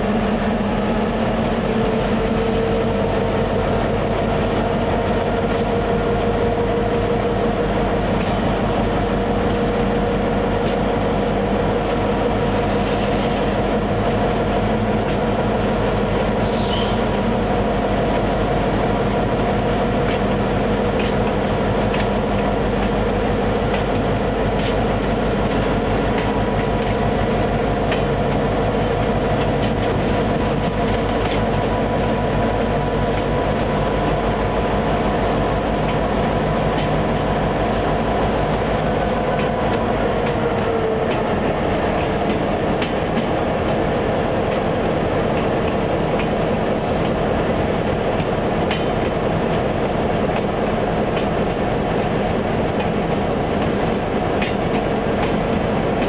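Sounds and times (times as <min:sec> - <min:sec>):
diesel locomotive rumbling: 0:00.0 - 0:56.0.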